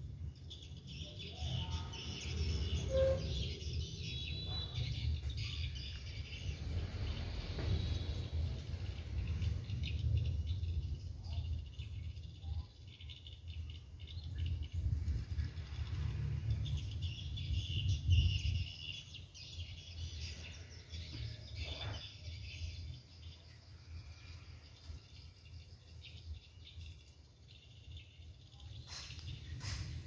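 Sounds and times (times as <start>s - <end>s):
insects trilling: 0.0s - 30.0s
small birds chirping: 0.0s - 30.0s.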